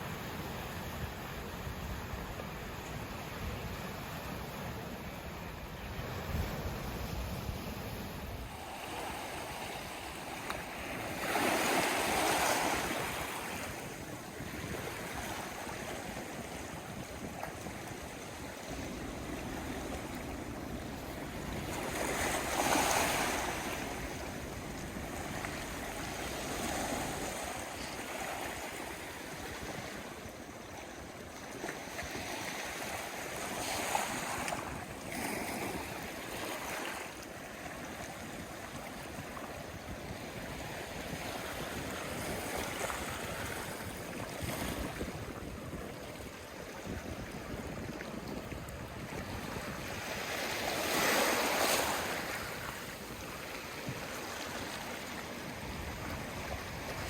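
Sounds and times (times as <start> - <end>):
sea waves washing onto shore: 6.1 - 57.0.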